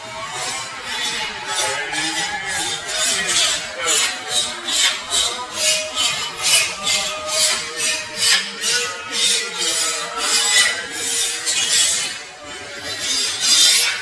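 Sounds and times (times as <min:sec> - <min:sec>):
knife sawing through fish: 0:00.3 - 0:14.0.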